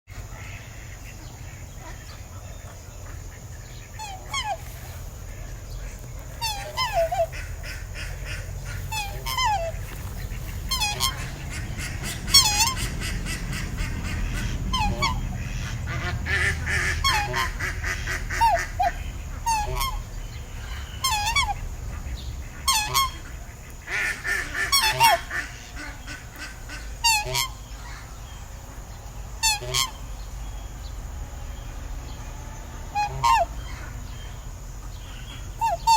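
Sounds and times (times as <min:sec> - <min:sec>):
low steady rumble: 0:00.1 - 0:35.9
swans honking: 0:00.1 - 0:35.9.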